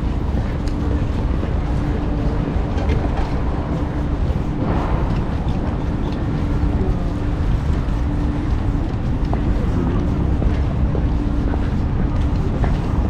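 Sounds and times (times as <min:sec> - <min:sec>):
faint steady hum: 0:00.0 - 0:13.0
wind buffeting microphone: 0:00.0 - 0:13.0.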